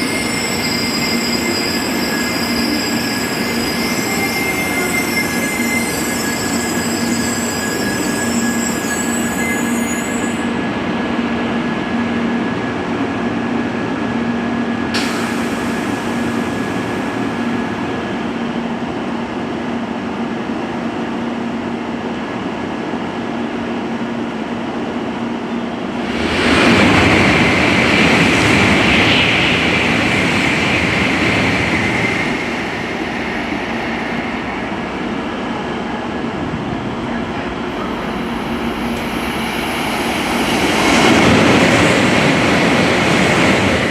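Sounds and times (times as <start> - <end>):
train rolling rumble: 0.0 - 43.9.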